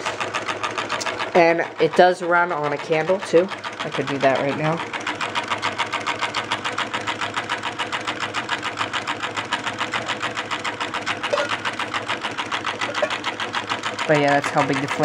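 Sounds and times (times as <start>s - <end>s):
stirling engine clacking: 0.0s - 15.0s.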